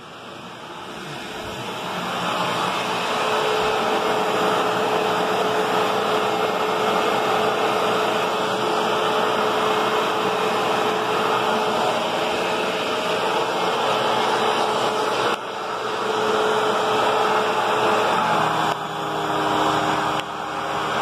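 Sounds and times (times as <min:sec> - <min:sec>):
vacuum cleaner humming: 0:00.0 - 0:21.0.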